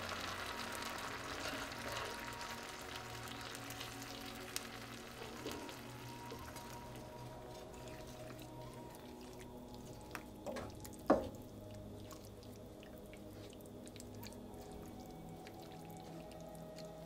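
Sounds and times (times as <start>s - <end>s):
salsa bubbling in a frying pan: 0.0s - 17.0s.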